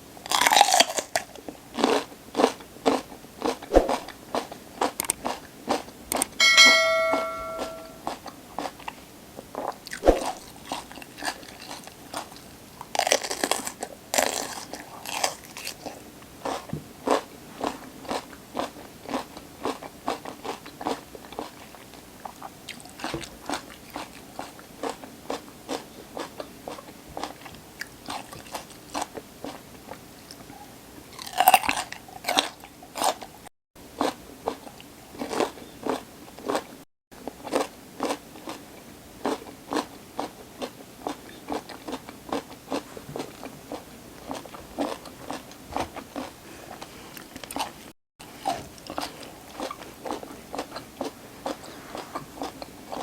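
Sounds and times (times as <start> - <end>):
crunchy chewing of raw vegetables: 0.2 - 6.4, 8.0 - 53.0.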